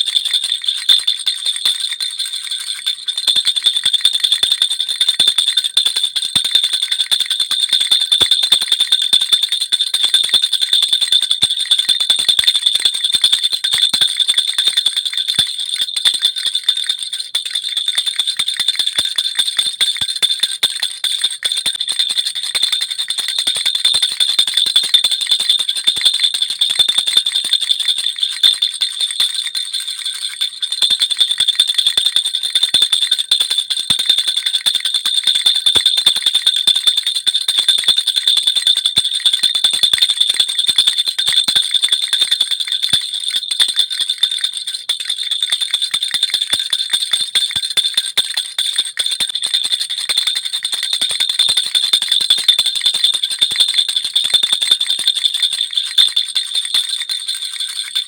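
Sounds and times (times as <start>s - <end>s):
baby rattle bells jingling: 0.0s - 36.6s, 37.7s - 48.1s, 50.1s - 58.0s.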